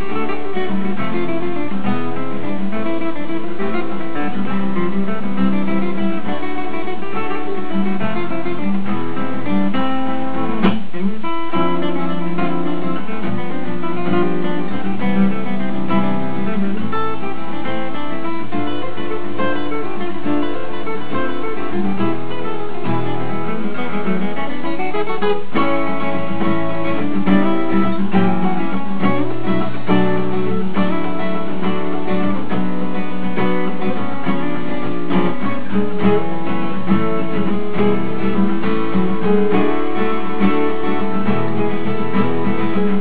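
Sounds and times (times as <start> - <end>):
fingerpicked guitar melody: 0.0 - 43.0
strummed acoustic guitar rhythm: 0.0 - 43.0.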